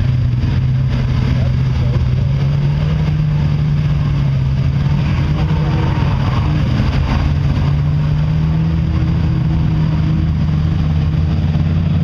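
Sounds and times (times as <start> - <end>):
engine running hard under load: 0.0 - 12.0.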